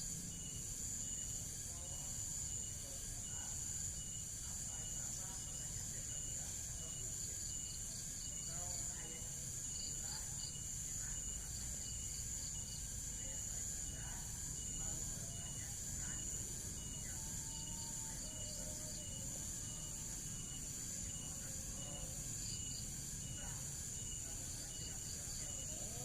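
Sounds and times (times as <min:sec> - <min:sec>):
crickets trilling: 0:00.0 - 0:26.0
pulsing insect chirp: 0:00.0 - 0:26.0.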